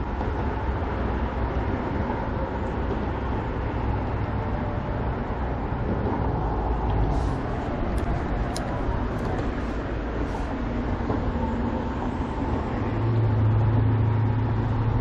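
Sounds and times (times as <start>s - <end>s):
engine running: 0.1s - 15.0s.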